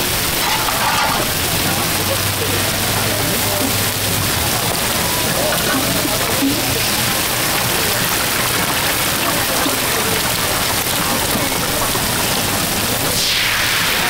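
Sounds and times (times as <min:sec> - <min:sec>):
eggs sizzling on a griddle: 0:00.0 - 0:14.0.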